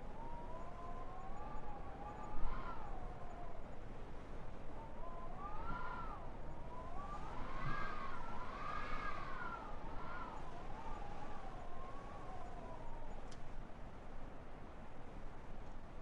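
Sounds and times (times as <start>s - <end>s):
howling blizzard wind: 0.0s - 16.0s.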